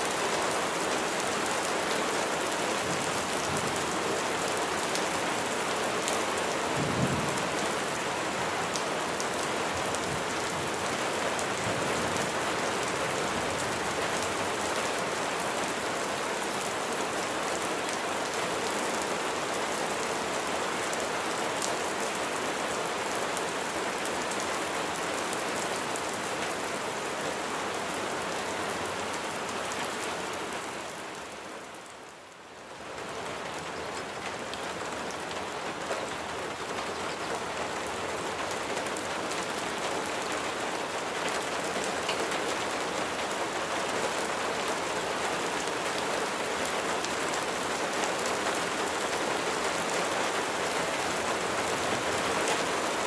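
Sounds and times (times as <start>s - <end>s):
rain falling on a surface: 0.0s - 53.0s.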